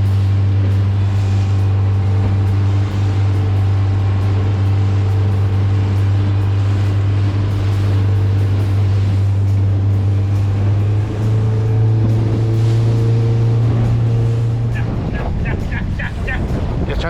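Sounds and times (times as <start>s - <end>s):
boat motor droning: 0.0s - 17.0s
rushing noise: 0.0s - 17.0s.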